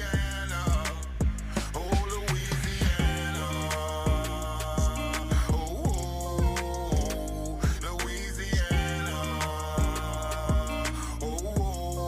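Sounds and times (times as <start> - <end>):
deep bass hits: 0.0 - 10.8, 11.6 - 11.9
hip hop music: 0.0 - 12.0.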